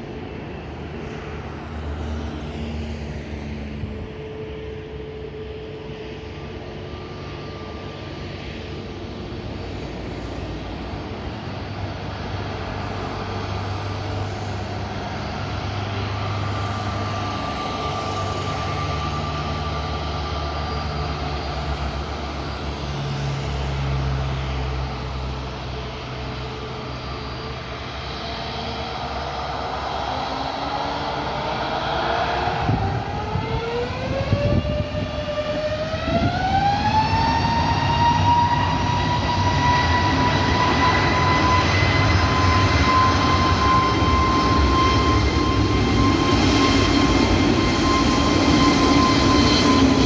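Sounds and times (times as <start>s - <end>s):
jet engines rumbling and whining: 0.0s - 50.0s.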